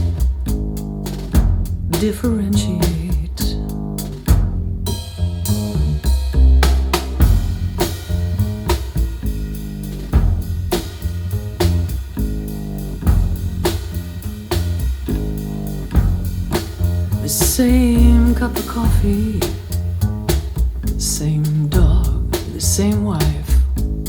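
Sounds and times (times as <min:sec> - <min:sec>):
rock song with drums bass and guitar: 0:00.0 - 0:24.0.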